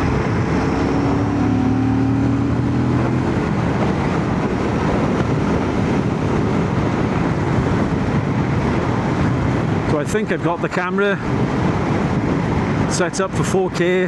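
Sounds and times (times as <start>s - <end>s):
rushing wind and road noise: 0.0s - 14.0s.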